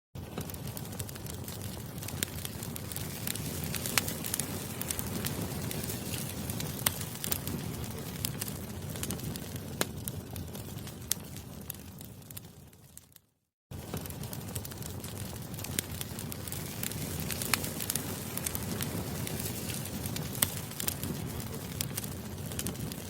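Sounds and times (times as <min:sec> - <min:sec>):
campfire flames rustling: 0:00.2 - 0:23.0
fire crackles and pops: 0:00.2 - 0:23.0.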